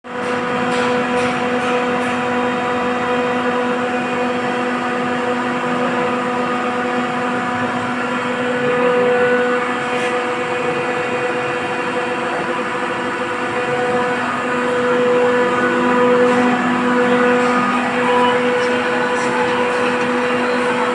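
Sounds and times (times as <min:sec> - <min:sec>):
air compressor running: 0:00.2 - 0:20.9.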